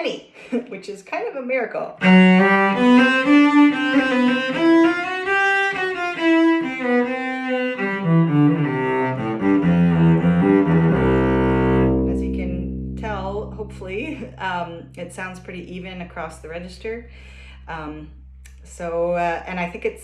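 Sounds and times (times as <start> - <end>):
bowed cello notes: 2.0 - 20.0.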